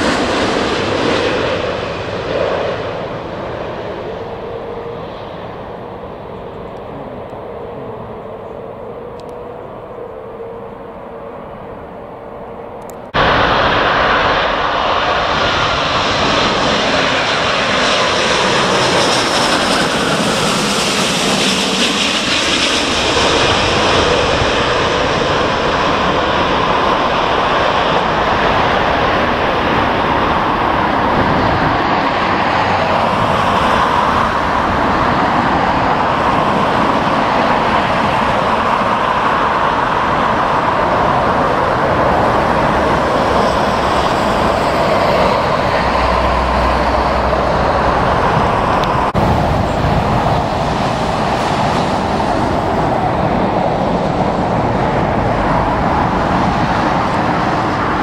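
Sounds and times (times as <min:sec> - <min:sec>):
jet engine whine: 0:00.0 - 0:58.0
jet engines roaring overhead: 0:00.0 - 0:58.0.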